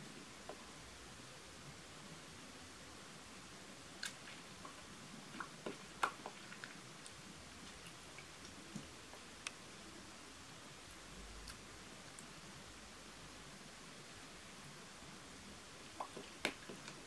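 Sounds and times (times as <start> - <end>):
quiet room hiss: 0.0 - 17.0.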